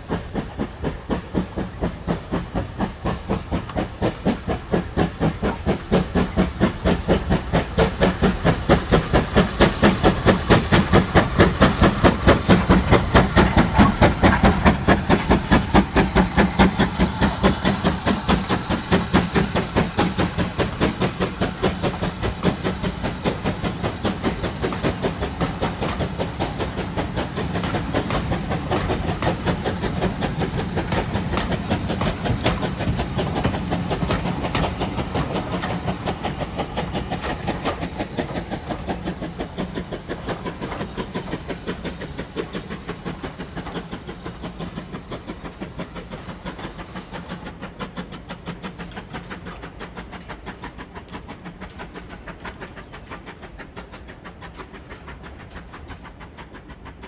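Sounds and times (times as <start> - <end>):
steam locomotive beats and hiss: 0.0 - 57.0.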